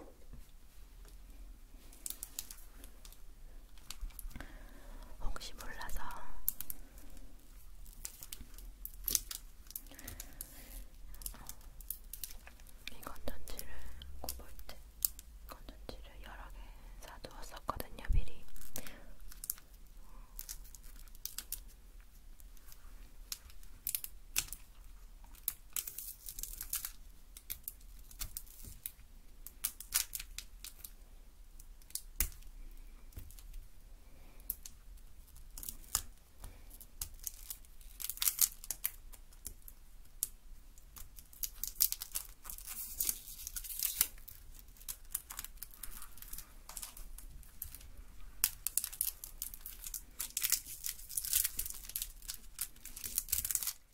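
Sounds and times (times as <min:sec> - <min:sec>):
material crinkling and tearing: 0:00.2 - 0:04.7, 0:05.5 - 0:15.4, 0:18.3 - 0:53.9.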